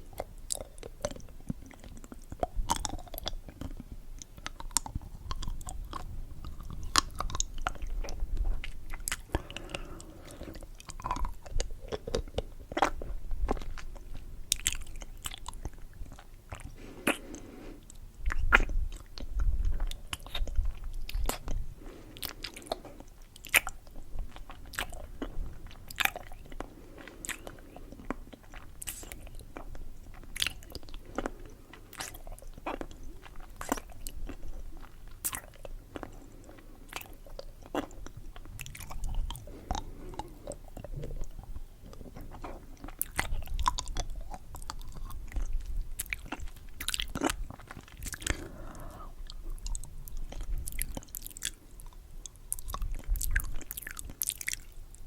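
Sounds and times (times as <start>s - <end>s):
person chewing candy: 0.0s - 55.0s.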